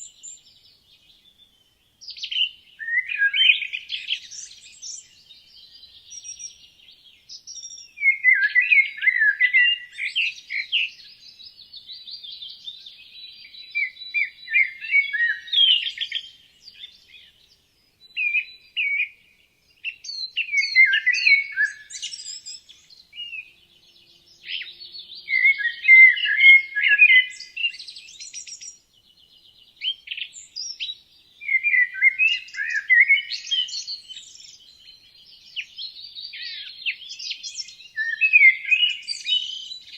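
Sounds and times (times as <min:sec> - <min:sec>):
faint bird chirps and trills: 0:00.0 - 0:39.9.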